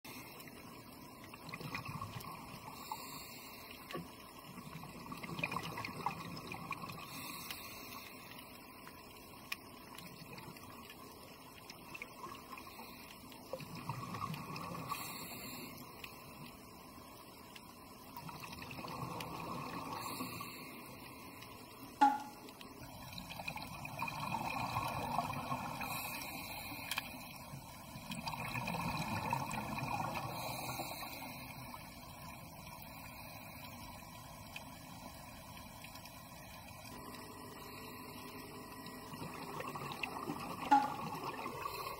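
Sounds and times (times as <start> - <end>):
faint underwater hiss: 0.1 - 41.9
regulator bubbles underwater: 0.1 - 41.9.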